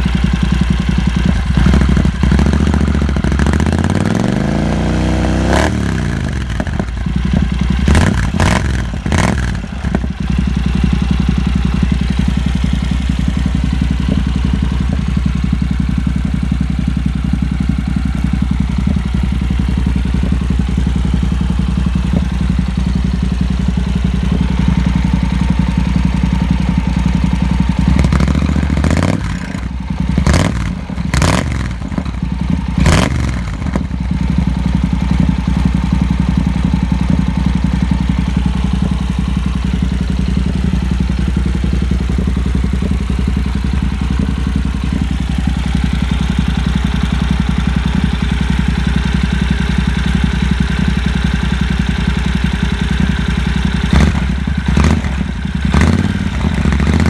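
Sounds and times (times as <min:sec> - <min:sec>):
motorcycle engine idling: 0:00.0 - 0:57.0
motorcycle engine revving: 0:00.0 - 0:57.0.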